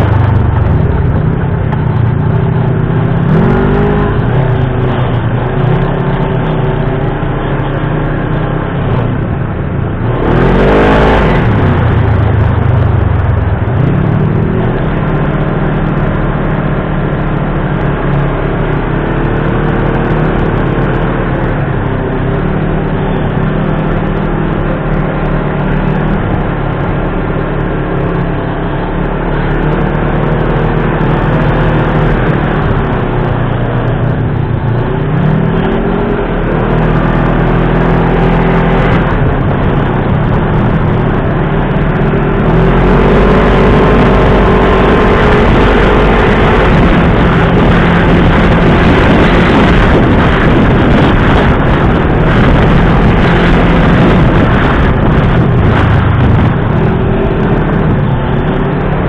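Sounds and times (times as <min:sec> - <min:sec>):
dune buggy engine revving: 0:00.0 - 0:59.0.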